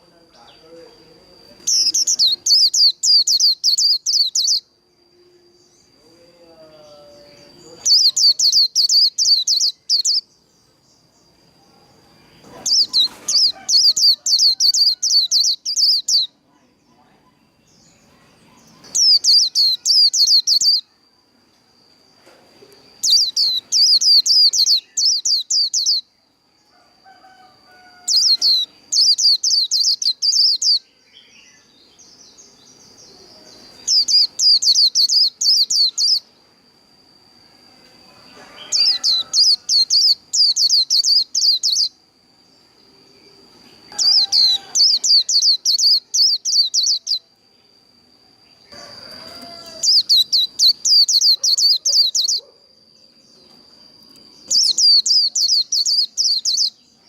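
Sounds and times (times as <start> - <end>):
bird high twittering song: 0.0 - 36.6, 37.4 - 57.0
faint steady high tone: 0.0 - 57.0.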